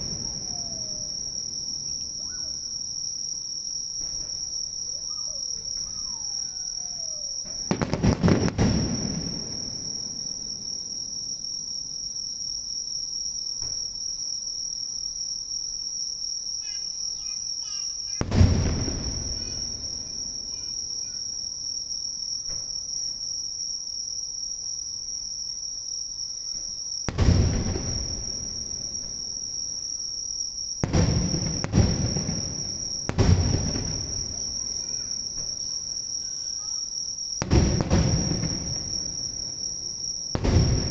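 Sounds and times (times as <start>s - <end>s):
fireworks booming: 0.0s - 11.9s, 13.6s - 14.1s, 16.6s - 23.4s, 26.5s - 40.9s
insects chirring: 0.0s - 40.9s.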